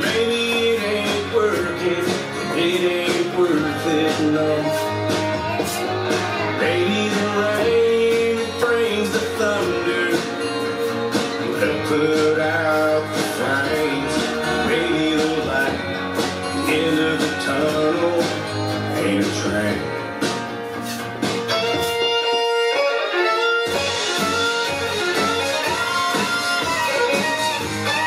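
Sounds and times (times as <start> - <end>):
guitar-led country song: 0.0 - 28.0.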